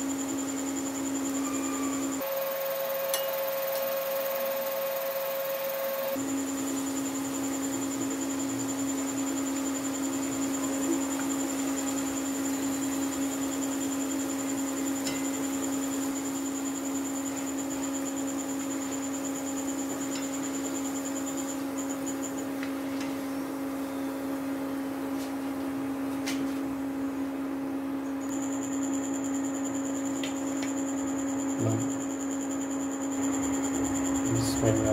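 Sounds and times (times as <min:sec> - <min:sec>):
electric cooktop hum and whine: 0:00.0 - 0:34.9.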